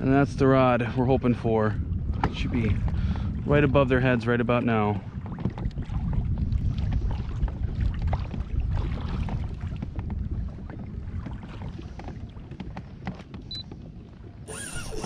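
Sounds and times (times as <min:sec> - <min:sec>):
water lapping against kayak hull: 0:00.0 - 0:15.0
wind rumbling on microphone: 0:00.0 - 0:15.0.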